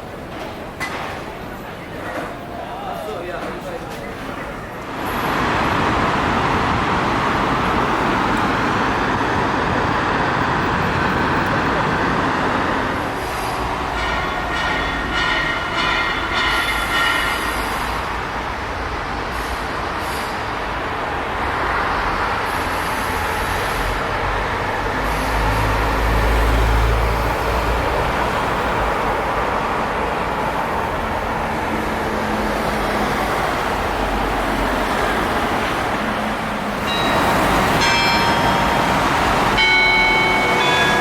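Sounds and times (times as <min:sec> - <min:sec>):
bus engine and road noise: 0:00.0 - 0:41.0.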